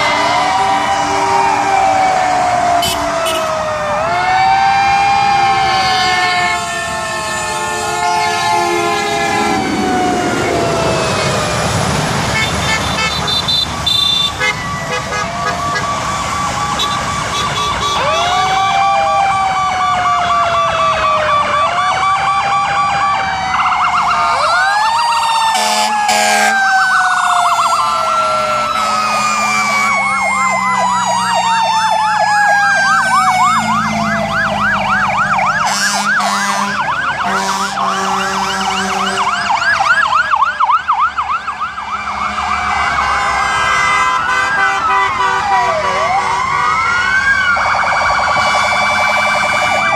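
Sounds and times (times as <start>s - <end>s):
siren yelping: 0.0s - 49.9s
sirens wailing: 0.0s - 49.9s.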